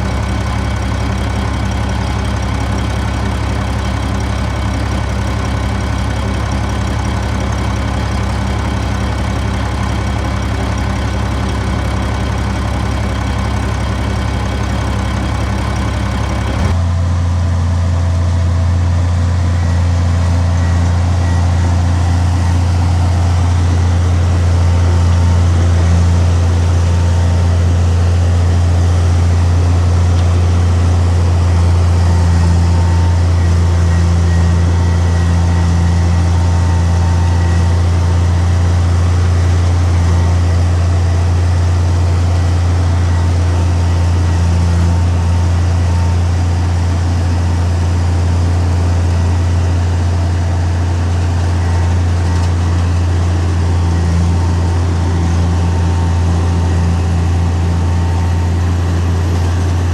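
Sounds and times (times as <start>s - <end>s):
diesel engine low drone: 0.0s - 59.9s.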